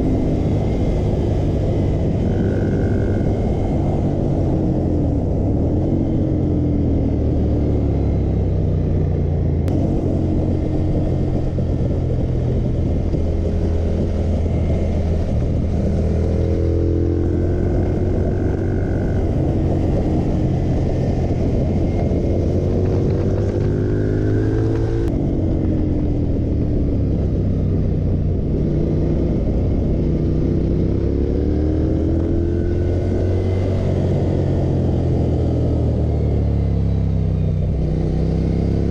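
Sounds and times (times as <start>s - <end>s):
wind rush: 0.0s - 8.4s, 9.6s - 36.8s
motorcycle engine accelerating: 0.0s - 38.9s.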